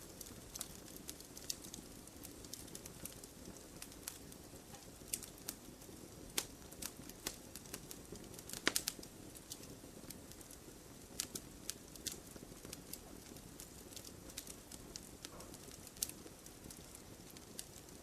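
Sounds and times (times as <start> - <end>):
soft steady hiss: 0.0 - 18.0
wood fire crackling and popping: 0.0 - 18.0.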